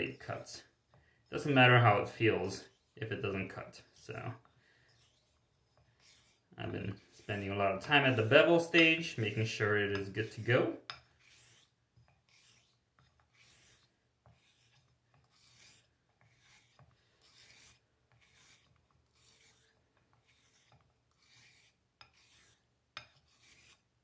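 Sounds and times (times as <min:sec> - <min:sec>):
razor scraping on whetstone: 0:00.1 - 0:24.0.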